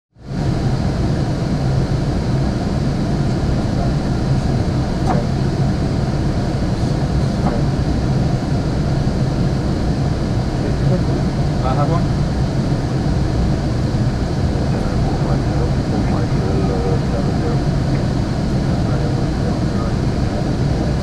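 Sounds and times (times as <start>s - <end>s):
airflow and air conditioning rush: 0.2s - 21.0s.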